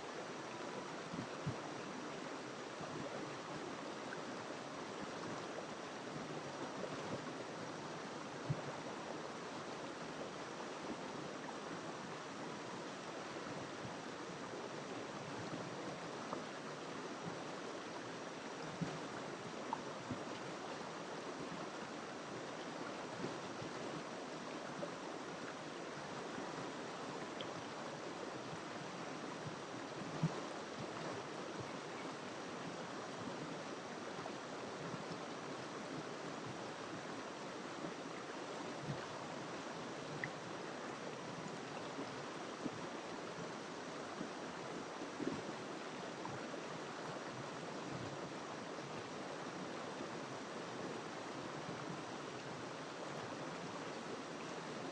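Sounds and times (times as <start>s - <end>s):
river water rushing over stones: 0.0s - 54.9s.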